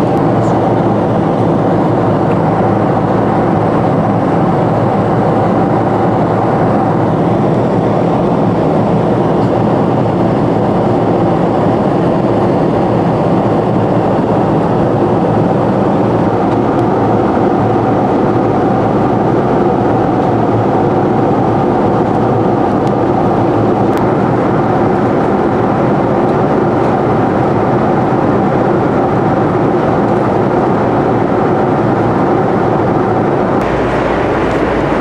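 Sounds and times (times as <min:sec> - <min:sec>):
airplane cabin engine rumble: 0:00.0 - 0:35.0.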